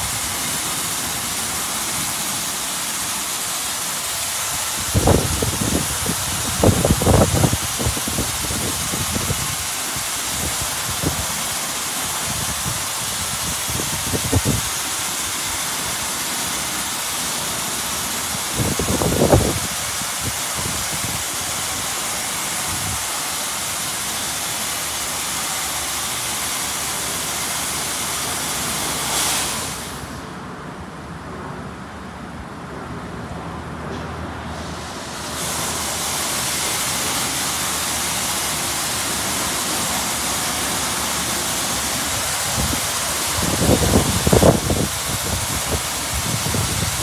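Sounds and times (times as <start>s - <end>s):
high-pressure water spray hissing: 0.0s - 30.4s, 34.4s - 47.0s.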